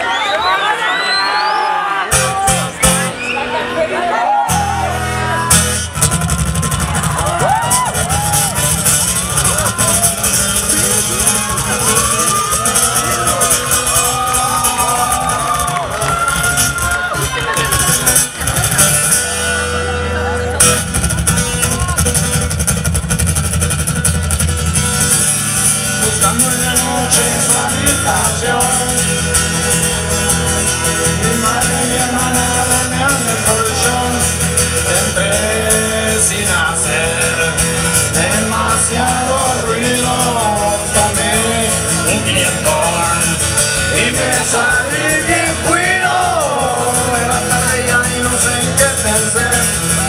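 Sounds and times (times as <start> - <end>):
amplified acoustic guitar: 2.0 - 50.0.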